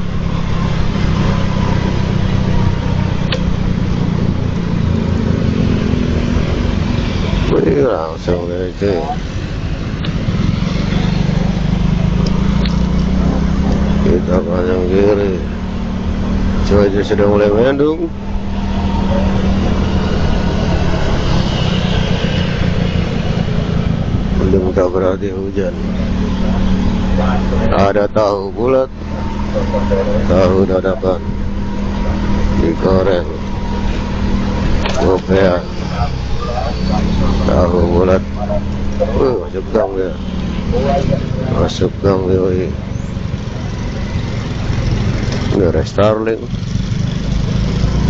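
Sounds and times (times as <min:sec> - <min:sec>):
motor scooter engine: 0:00.0 - 0:48.0
wind and road noise: 0:00.0 - 0:48.0.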